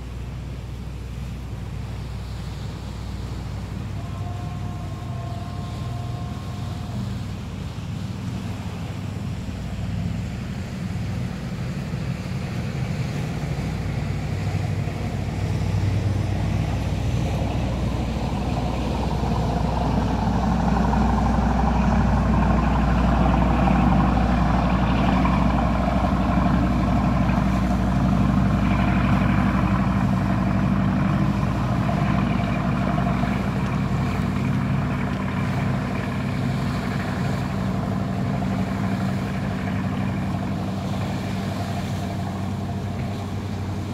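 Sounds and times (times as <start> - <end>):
boat wake rushing on water: 0.0 - 43.9
motorboat engine droning: 0.0 - 43.9.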